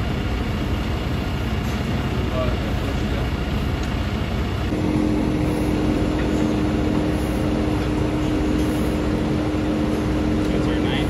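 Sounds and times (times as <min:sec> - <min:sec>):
steady hum: 0:00.0 - 0:11.0
vacuum truck engine and pump: 0:00.0 - 0:11.0.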